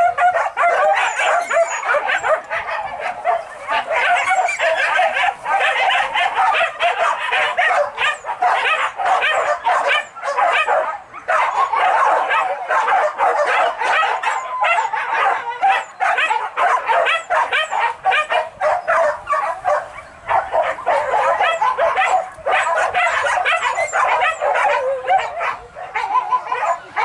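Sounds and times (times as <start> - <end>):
dogs barking and yelping: 0.0 - 27.0.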